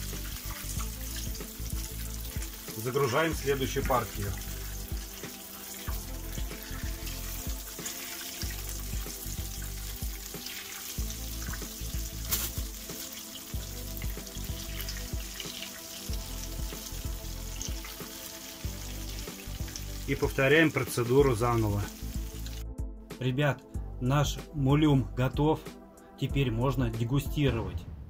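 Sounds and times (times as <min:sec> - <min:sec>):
oil sizzling in a frying pan: 0:00.0 - 0:22.6.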